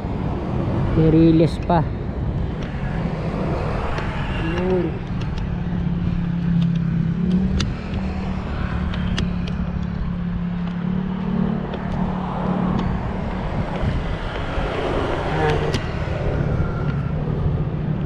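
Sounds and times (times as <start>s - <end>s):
street noise: 0.0s - 18.0s
vehicle engine humming: 0.0s - 18.0s.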